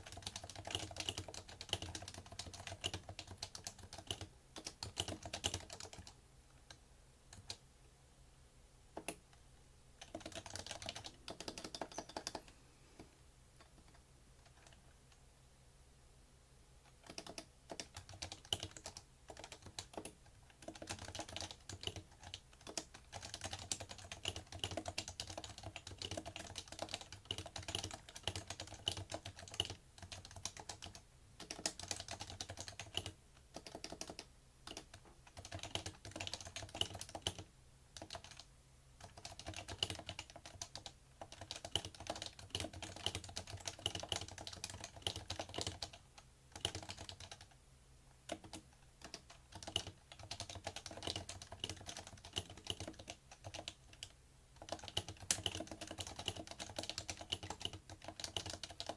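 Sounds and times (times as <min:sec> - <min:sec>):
keyboard typing: 0:00.0 - 0:07.6, 0:09.0 - 0:09.4, 0:10.0 - 0:14.9, 0:16.8 - 0:47.6, 0:48.3 - 0:58.9.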